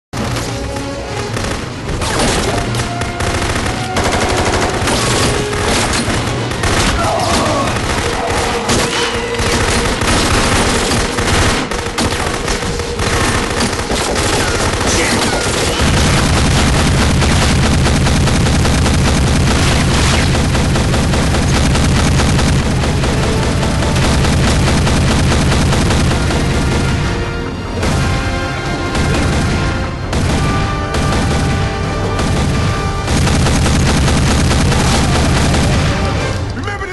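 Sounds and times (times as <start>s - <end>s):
rapid automatic gunfire: 0.2s - 36.3s
dramatic score music: 0.2s - 36.9s.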